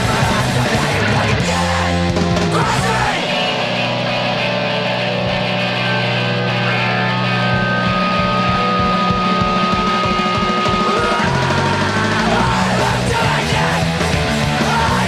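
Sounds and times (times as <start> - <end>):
distorted electric guitars: 0.0 - 15.0.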